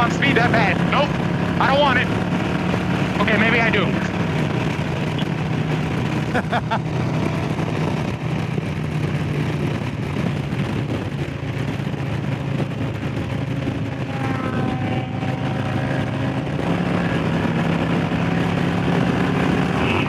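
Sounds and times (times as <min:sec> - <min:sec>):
motorcycle engine at speed: 0:00.0 - 0:20.0.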